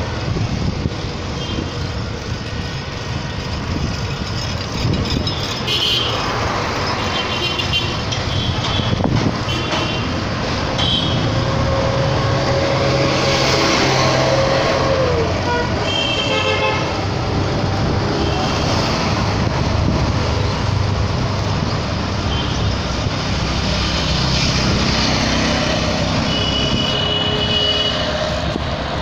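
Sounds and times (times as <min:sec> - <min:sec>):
road and engine noise: 0:00.0 - 0:29.0.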